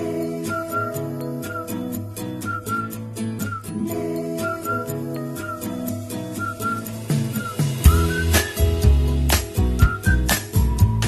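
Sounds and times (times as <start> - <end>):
whistled melody: 0.0 - 11.0
music with steady beat: 1.9 - 11.0.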